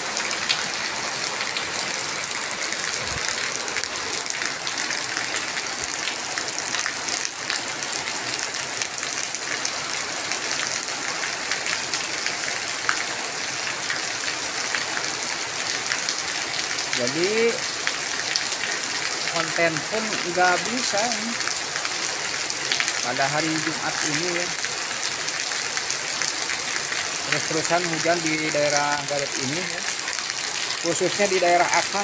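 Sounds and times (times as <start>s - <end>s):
heavy rain on pavement: 0.0s - 32.0s.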